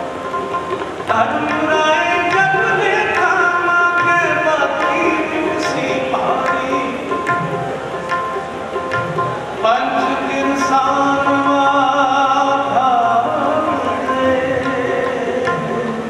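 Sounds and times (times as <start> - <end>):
harmoniums playing a melody: 0.0 - 16.0
tabla strokes: 0.0 - 16.0.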